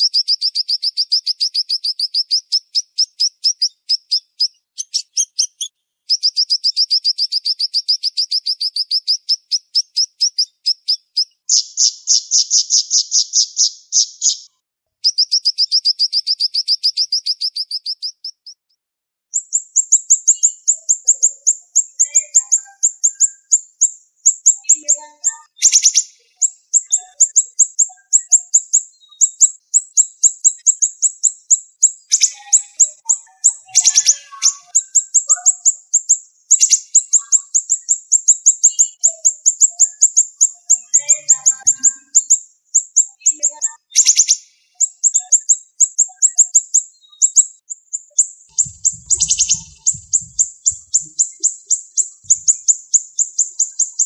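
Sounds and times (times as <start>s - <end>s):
songbird rapid high chirps: 0.0s - 18.6s, 19.3s - 54.0s.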